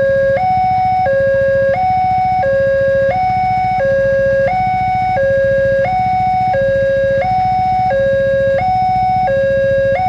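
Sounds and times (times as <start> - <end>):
two-tone crossing alarm: 0.0 - 10.0.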